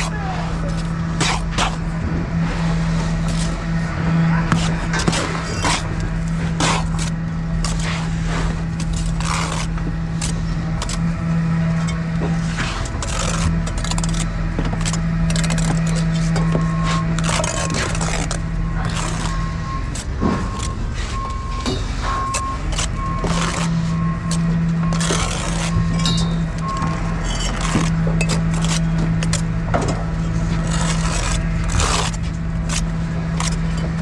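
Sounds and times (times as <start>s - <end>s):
steady machine hum: 0.0s - 34.0s
trowel scraping on mortar and bricks: 0.0s - 34.0s.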